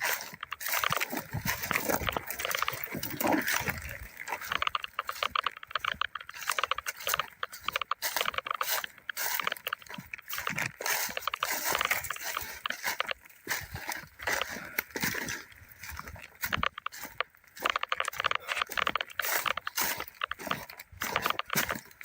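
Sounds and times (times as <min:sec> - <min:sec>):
dry brush crackling and rustling: 0:00.0 - 0:22.0
footsteps through brush: 0:00.0 - 0:22.0.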